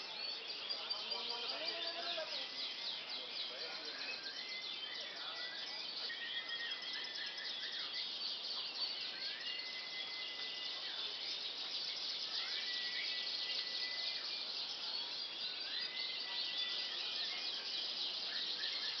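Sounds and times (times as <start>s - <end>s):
canaries chirping and trilling: 0.0s - 19.0s.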